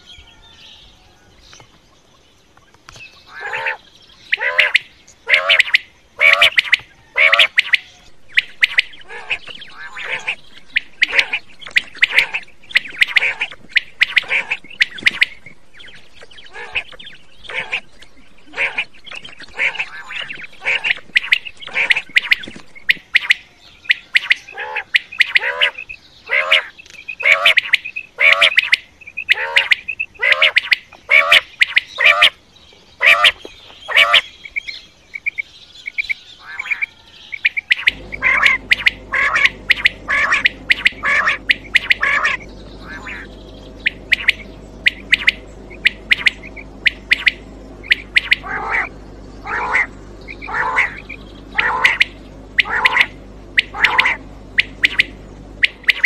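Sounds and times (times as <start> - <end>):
quail calling: 3.2 - 32.4, 33.0 - 34.3, 35.2 - 56.0.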